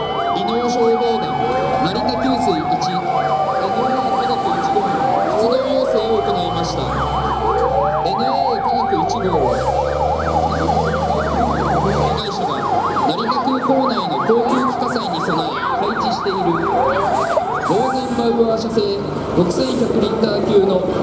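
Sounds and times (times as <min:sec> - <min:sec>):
fire engine siren yelping: 0:00.0 - 0:21.0
fire engine sirens wailing: 0:00.0 - 0:21.0
heavy truck engine rumbling: 0:00.0 - 0:21.0.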